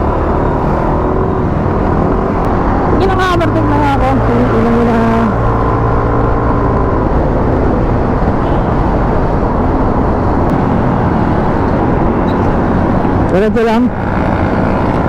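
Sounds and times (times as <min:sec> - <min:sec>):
wind buffeting microphone: 0:00.6 - 0:15.0.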